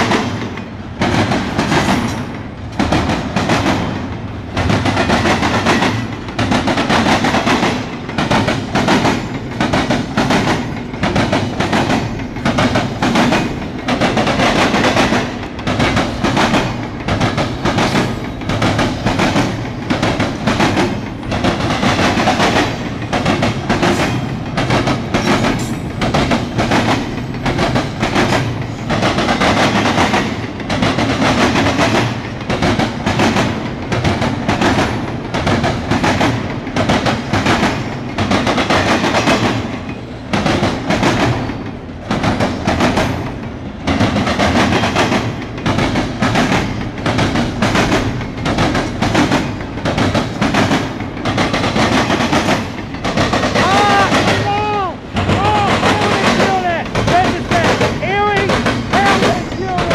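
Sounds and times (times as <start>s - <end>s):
train wheels clattering over track: 0.0s - 59.9s.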